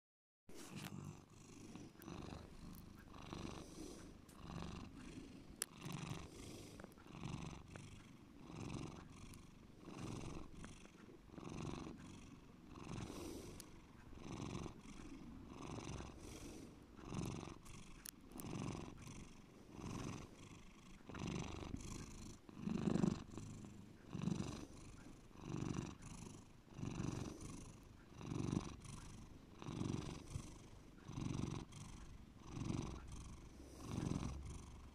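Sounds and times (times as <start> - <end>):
cat purring: 0.5 - 34.9.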